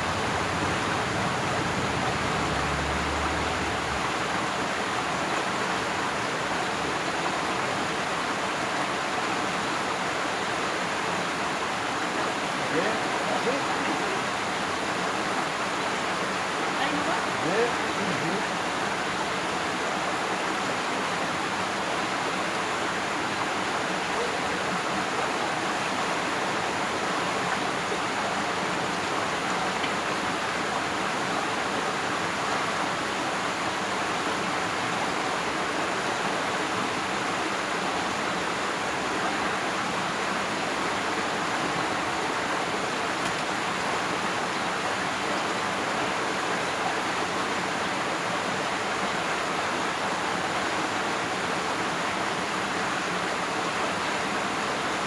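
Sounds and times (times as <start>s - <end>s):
water rushing through channel: 0.0s - 55.0s.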